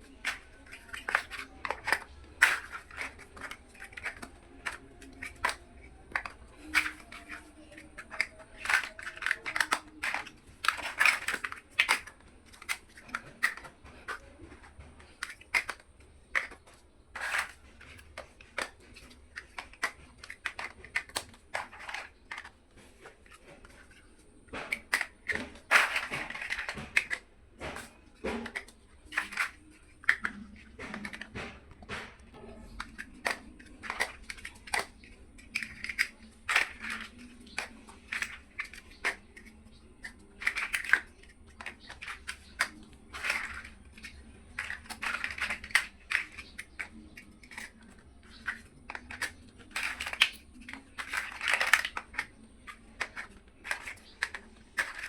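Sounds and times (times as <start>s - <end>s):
plastic bricks clicking: 0.0s - 55.0s.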